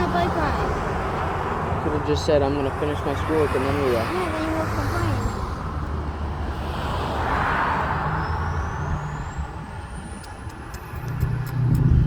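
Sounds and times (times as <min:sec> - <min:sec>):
heavy vehicle engine: 0:00.0 - 0:12.0
road traffic hum: 0:00.0 - 0:12.0
vehicle passing: 0:00.0 - 0:12.0.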